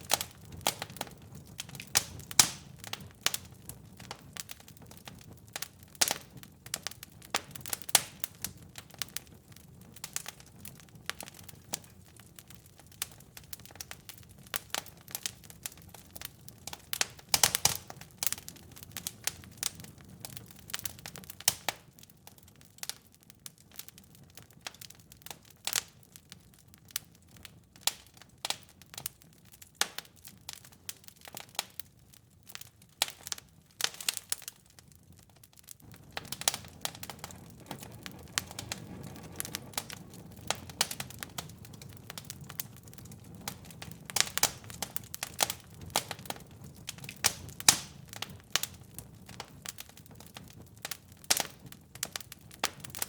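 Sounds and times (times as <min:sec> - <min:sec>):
fire crackles and pops: 0:00.0 - 0:53.0
low rumble of flames: 0:00.0 - 0:53.0.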